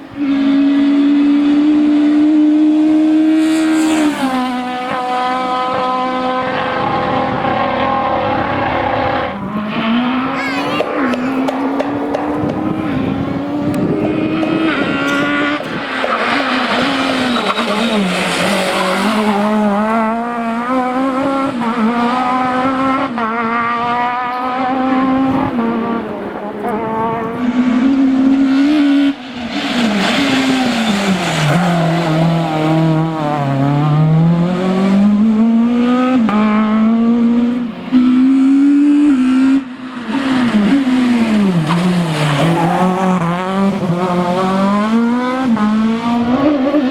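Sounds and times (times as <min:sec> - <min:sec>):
rally engine revving: 0:00.0 - 0:46.9.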